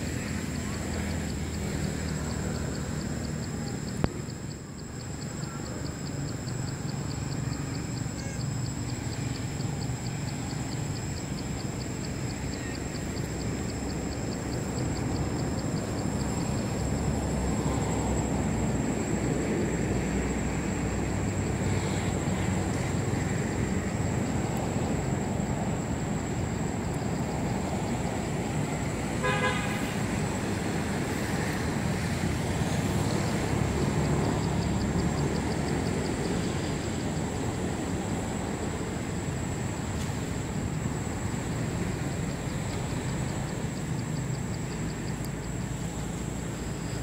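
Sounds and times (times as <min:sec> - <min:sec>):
continuous high whine: 0:00.0 - 0:47.0.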